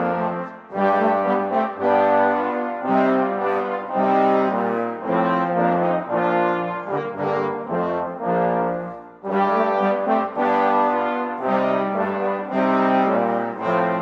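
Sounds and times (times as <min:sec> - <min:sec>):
brass ensemble playing chords: 0:00.0 - 0:14.0.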